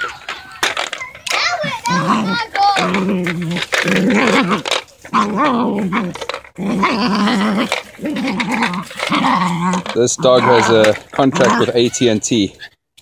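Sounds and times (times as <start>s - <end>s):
small dog growling: 1.8s - 12.6s.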